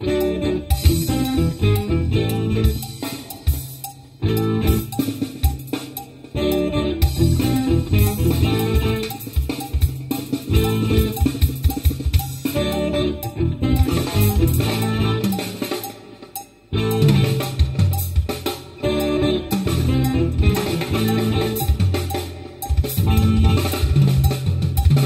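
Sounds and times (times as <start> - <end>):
funk band playing: 0.0 - 25.0.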